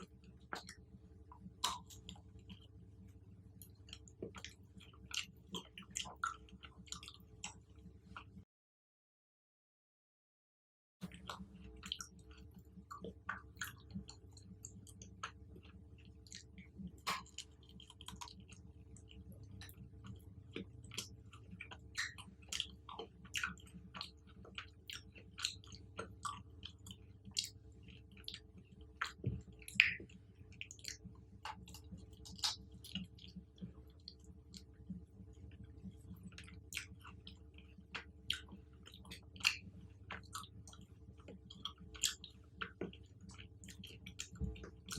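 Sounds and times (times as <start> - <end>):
close chewing with wet smacks: 0.0 - 8.4, 11.0 - 44.9
faint steady hum: 0.0 - 8.4, 11.0 - 44.9.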